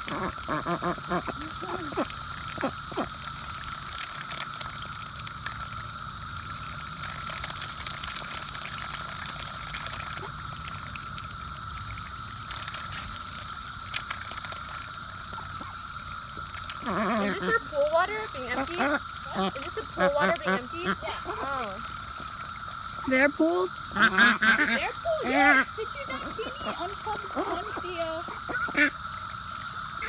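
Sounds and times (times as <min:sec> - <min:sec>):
cicadas droning: 0:00.0 - 0:30.0
ducks dabbling in muddy water: 0:00.0 - 0:30.0.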